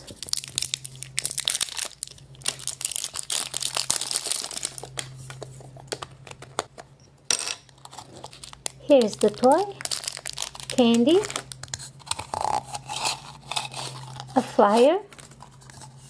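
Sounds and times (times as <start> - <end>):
foil wrapper crinkling and tearing: 0.0 - 5.3, 7.7 - 16.0.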